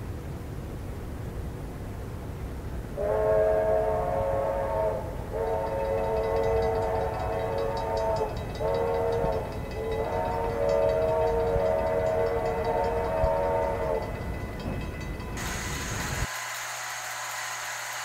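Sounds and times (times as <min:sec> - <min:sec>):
steady hiss: 0:00.0 - 0:18.0
steam locomotive whistle: 0:03.0 - 0:18.0.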